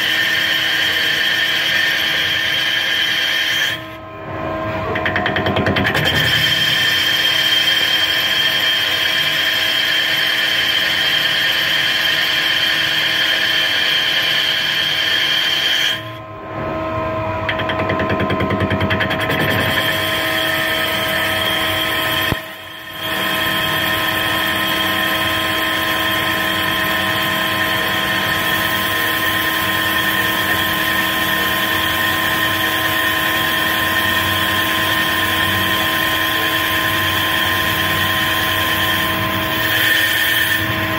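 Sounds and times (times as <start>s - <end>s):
lathe machining whine: 0.0s - 40.9s.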